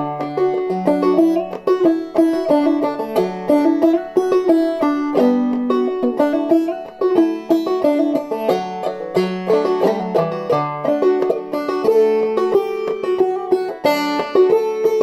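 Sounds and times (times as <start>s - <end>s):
banjo melody: 0.0s - 15.0s.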